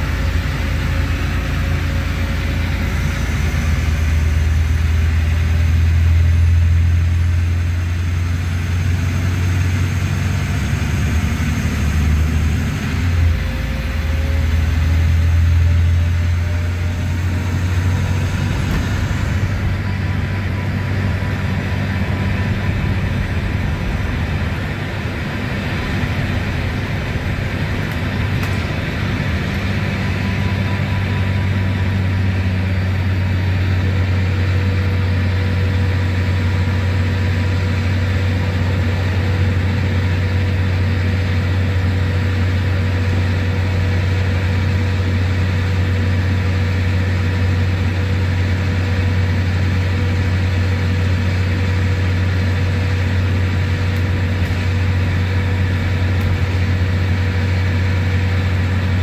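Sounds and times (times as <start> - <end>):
bus diesel engine droning: 0.0 - 59.0
faint steady whine: 0.0 - 59.0.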